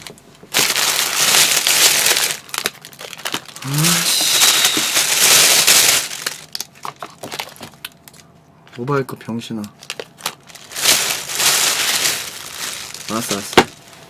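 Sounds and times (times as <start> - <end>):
plastic bag rustling: 0.0 - 8.1, 9.8 - 14.0.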